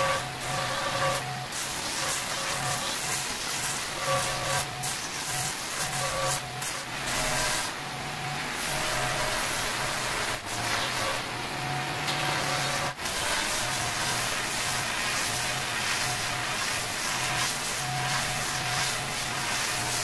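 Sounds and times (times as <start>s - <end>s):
angle grinder cutting stone: 0.0s - 20.0s.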